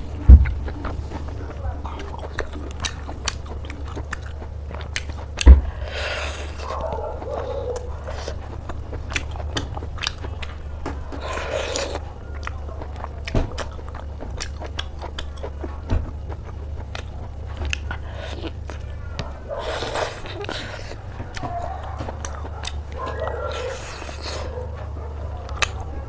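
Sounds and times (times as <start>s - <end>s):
steady low hum: 0.0s - 26.0s
wet chewing and crunching: 0.0s - 26.0s.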